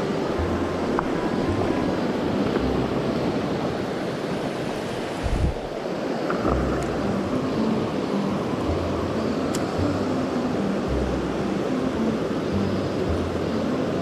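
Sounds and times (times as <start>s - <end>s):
stream water rushing: 0.0s - 14.0s
wind gusts on microphone: 0.0s - 14.0s.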